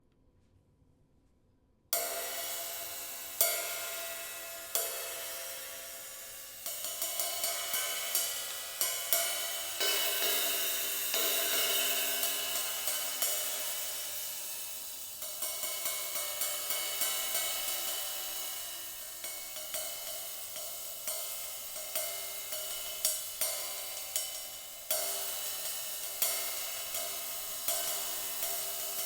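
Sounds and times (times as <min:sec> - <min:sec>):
sizzle ride cymbal ringing: 0:02.0 - 0:29.0.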